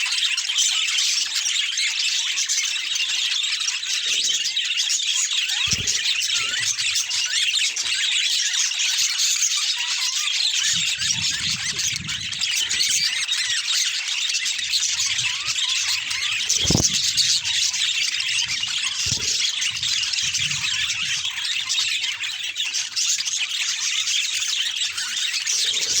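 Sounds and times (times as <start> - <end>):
budgerigars chattering: 2.2 - 26.0.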